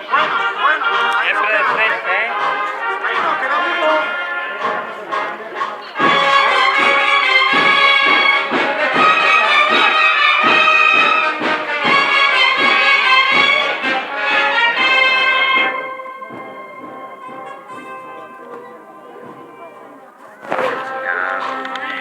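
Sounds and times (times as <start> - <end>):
brass band playing a march: 0.0 - 22.0.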